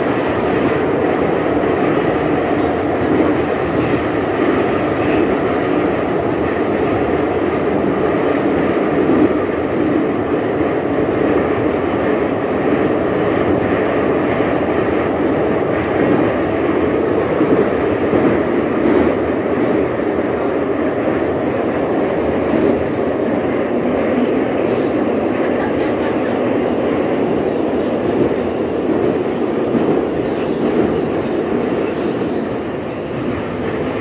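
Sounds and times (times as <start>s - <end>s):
metro train wheels rumbling: 0.0s - 34.0s.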